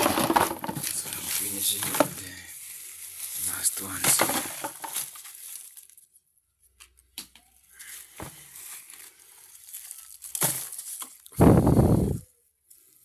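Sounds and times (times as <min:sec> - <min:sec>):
rubbish rustling and crinkling: 0:00.0 - 0:11.4.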